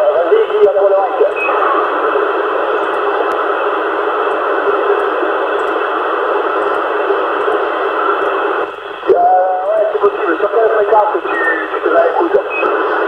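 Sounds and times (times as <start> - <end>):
radio speaker static hiss: 0.0 - 13.0.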